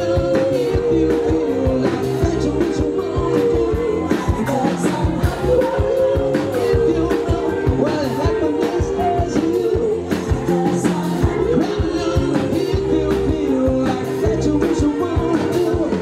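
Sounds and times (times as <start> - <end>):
loud dance music: 0.0 - 16.0
person singing: 0.0 - 16.0.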